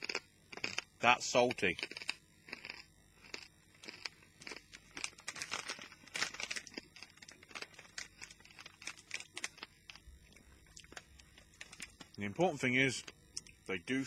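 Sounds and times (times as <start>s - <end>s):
person crunching crispy food: 0.0s - 0.9s, 1.8s - 12.2s.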